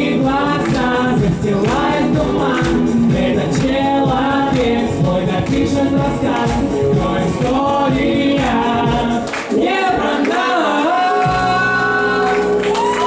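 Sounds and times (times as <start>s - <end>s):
backing track with steady beat: 0.0s - 10.5s
pop song vocals: 0.0s - 13.0s.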